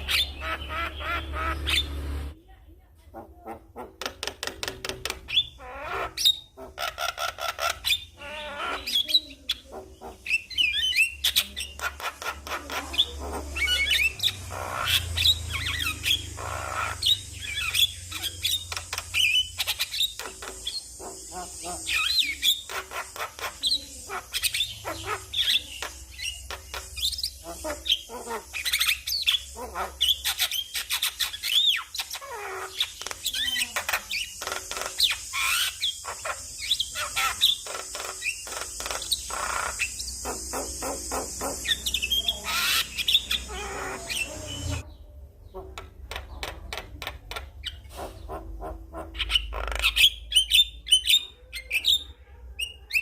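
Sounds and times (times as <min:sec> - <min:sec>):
myna bird singing and chattering: 0:00.0 - 0:02.4, 0:03.1 - 0:53.0.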